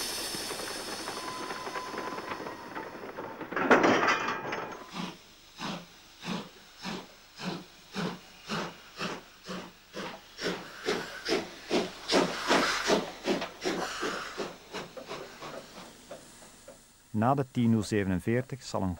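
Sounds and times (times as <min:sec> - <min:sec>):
steam locomotive chuffing: 0:00.0 - 0:18.1.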